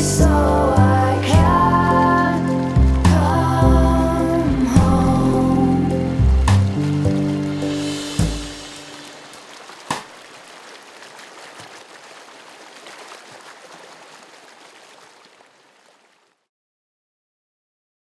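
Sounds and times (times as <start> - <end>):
rain-like water patter: 0.0 - 16.5.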